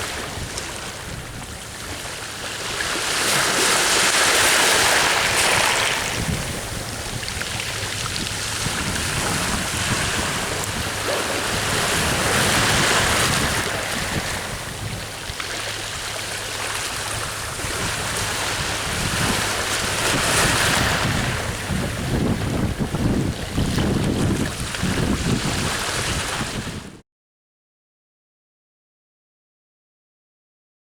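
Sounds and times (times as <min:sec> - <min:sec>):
sea waves washing onto shore: 0:00.0 - 0:27.0
wind buffeting microphone: 0:00.0 - 0:27.0.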